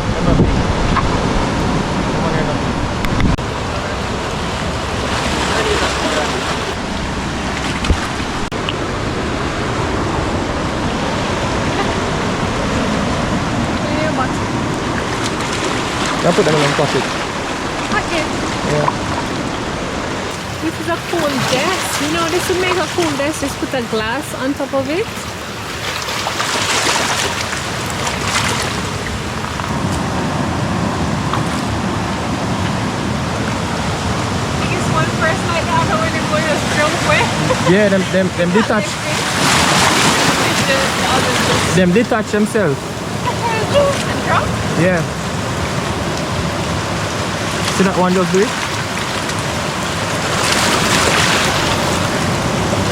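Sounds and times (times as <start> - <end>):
heavy rain: 0.0 - 52.9
sea waves washing in: 0.0 - 52.9
surf rushing: 0.0 - 52.9.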